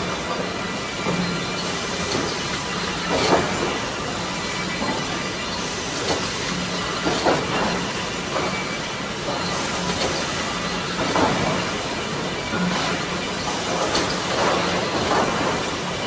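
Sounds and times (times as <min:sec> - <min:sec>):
timber machinery hum and hiss: 0:00.0 - 0:16.0.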